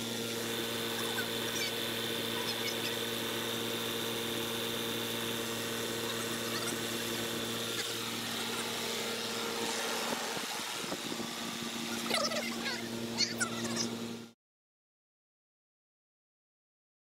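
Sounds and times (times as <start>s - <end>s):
high-pitched machine whine: 0.0s - 14.4s
machine humming: 0.0s - 14.4s.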